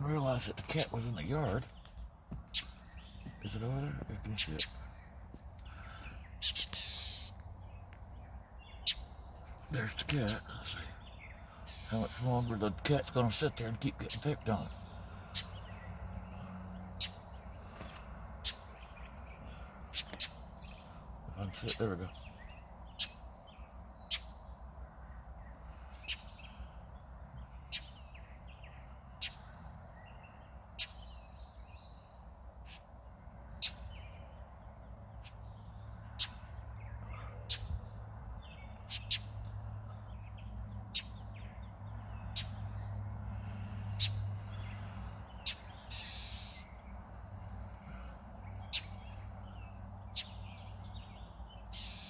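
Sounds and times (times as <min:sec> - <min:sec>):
bird sharp alarm chirps: 0:00.0 - 0:26.8, 0:27.5 - 0:34.4, 0:35.2 - 0:42.9, 0:43.5 - 0:52.0.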